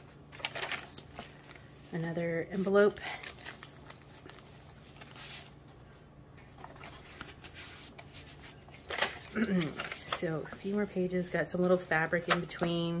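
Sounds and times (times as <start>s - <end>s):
paper pages rustling: 0.0s - 5.7s, 6.4s - 12.8s.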